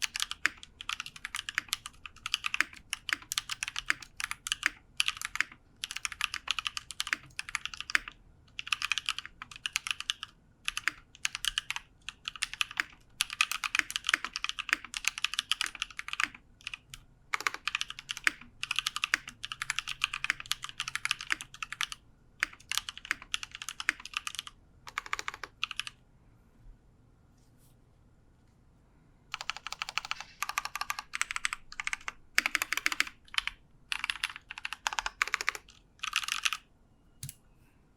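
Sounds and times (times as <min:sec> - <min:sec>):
mechanical keyboard typing: 0:00.0 - 0:26.0, 0:29.3 - 0:37.4.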